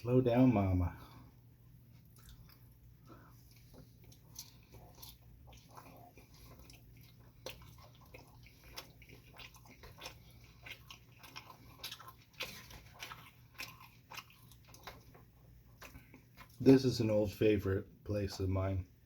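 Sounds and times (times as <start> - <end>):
person chewing noodles: 0.4 - 17.2.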